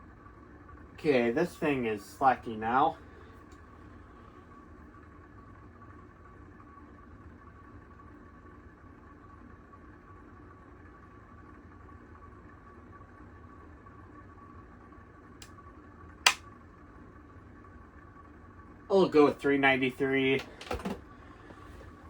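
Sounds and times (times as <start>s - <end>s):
ceiling fan humming: 0.0s - 22.0s
thin steady whine: 0.0s - 22.0s.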